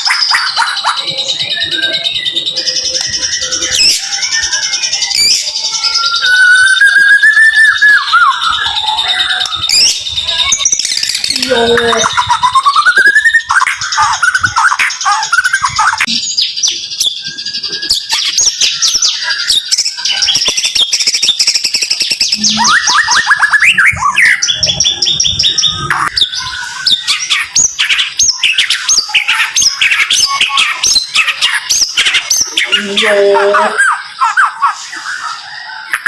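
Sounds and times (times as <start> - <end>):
bird singing rapid high notes: 0.0 - 36.0.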